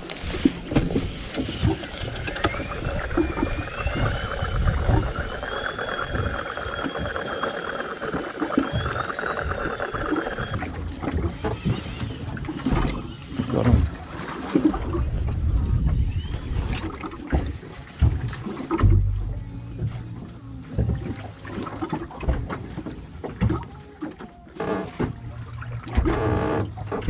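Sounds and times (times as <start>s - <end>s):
wind: 0.0s - 27.0s
water knocking against hull: 0.6s - 27.0s
thin wavering whine: 1.2s - 27.0s.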